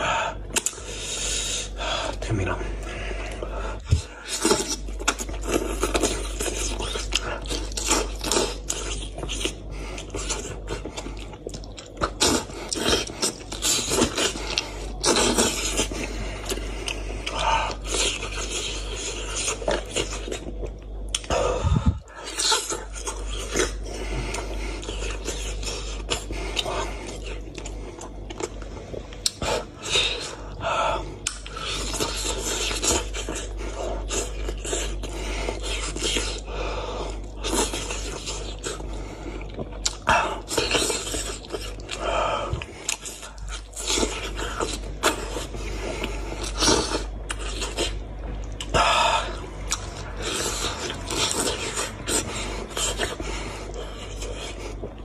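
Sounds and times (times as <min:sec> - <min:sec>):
wet chewing and lip smacking: 0:03.2 - 0:30.3, 0:31.2 - 0:36.5, 0:37.1 - 0:55.0.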